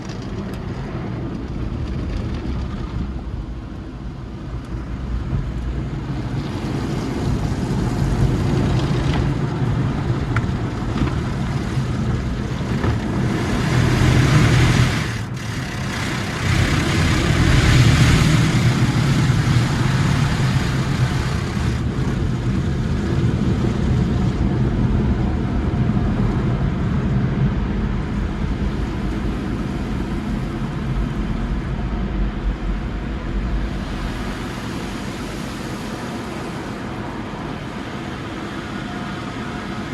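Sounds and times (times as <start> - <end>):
car wash equipment rushing: 0.0 - 39.9.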